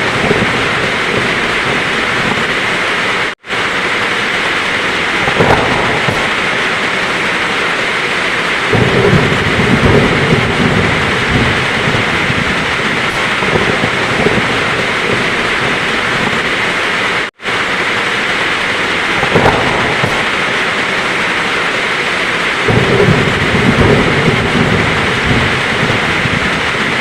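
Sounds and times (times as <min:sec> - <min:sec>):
heavy rain falling: 0:00.0 - 0:27.0
thunder rumbling: 0:00.0 - 0:27.0.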